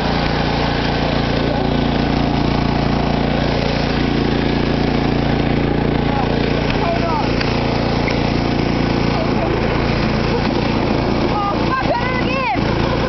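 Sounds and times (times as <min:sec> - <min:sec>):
lawn mower engine droning: 0:00.0 - 0:13.0.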